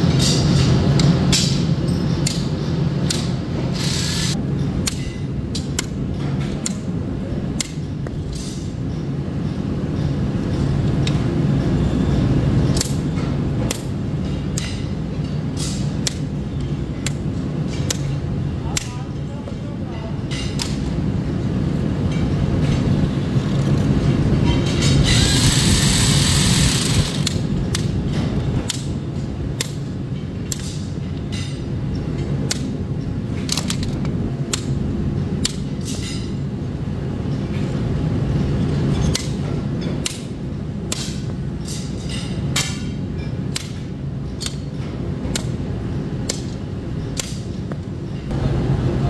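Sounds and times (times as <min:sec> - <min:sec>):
workshop machinery humming: 0:00.0 - 0:49.0.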